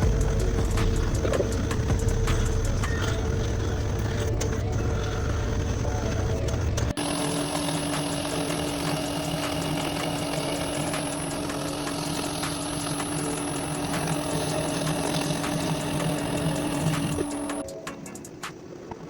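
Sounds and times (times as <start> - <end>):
metal lathe humming: 0.0 - 17.7.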